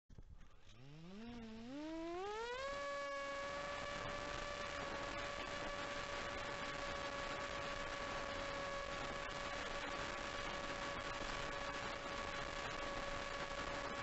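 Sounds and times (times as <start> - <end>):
electric motor propeller whine: 0.6 - 14.0.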